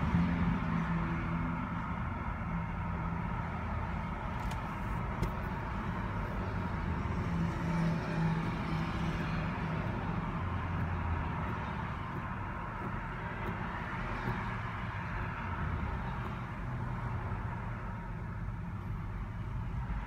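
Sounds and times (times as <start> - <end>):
passing vehicle engine hums: 0.0 - 20.0
road traffic from inside car: 0.0 - 20.0.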